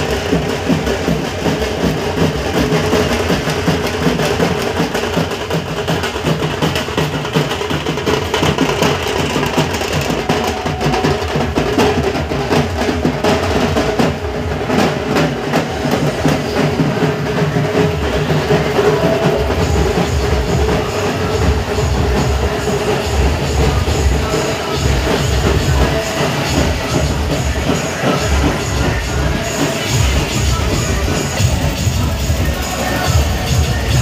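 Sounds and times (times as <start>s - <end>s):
drums beaten in fast rhythm: 0.0s - 34.0s.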